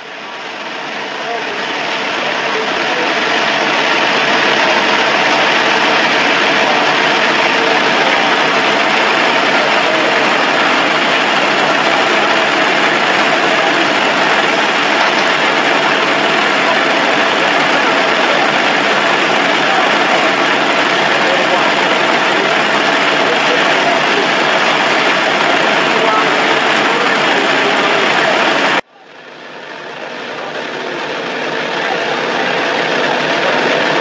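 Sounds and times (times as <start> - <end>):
engine or machinery noise: 0.0 - 34.0.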